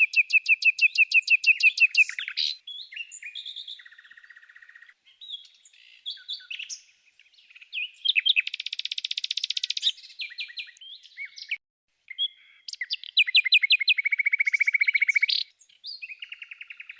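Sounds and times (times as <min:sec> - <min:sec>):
songbirds singing: 0:00.0 - 0:16.9.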